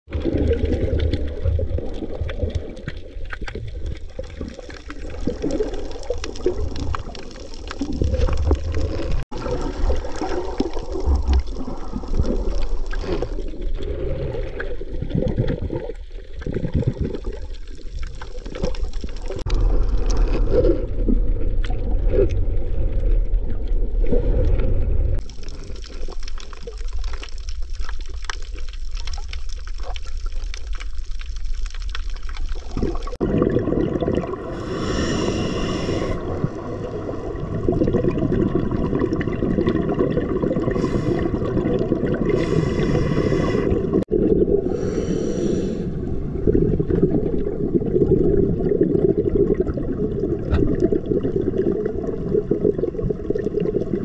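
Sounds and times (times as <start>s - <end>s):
muffled underwater water rush: 0.1s - 54.0s
underwater rumble: 0.1s - 54.0s.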